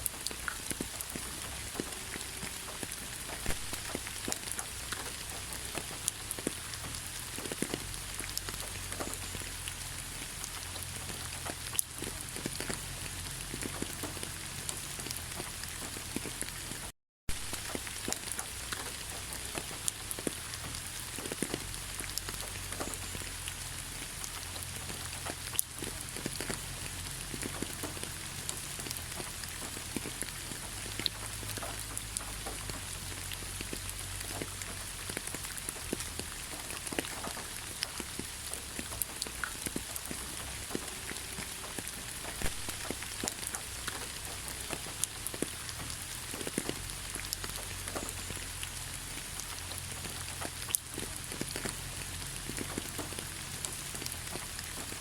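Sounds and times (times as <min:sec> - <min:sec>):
raindrops ticking close by: 0:00.0 - 0:55.0
steady rain in forest: 0:00.0 - 0:55.0.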